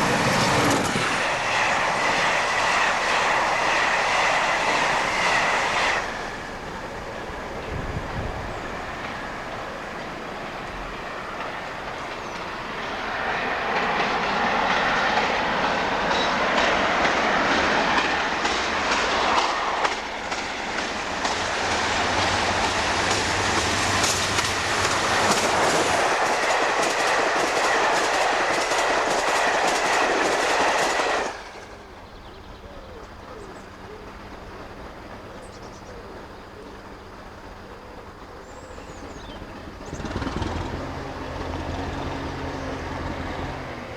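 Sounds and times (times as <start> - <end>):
train wheels clicking over rail joints: 0.0 - 35.9, 37.4 - 43.9.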